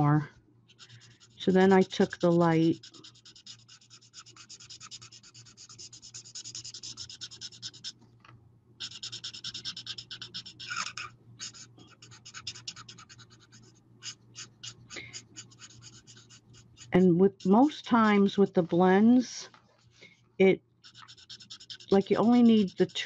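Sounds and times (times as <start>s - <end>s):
marker scratching on cardstock: 0.7s - 8.0s, 8.8s - 18.3s, 20.8s - 23.0s.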